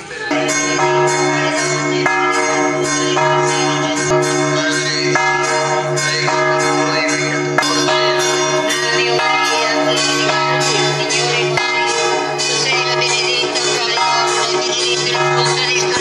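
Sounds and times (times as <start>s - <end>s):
church bells ringing a peal: 0.0s - 16.0s.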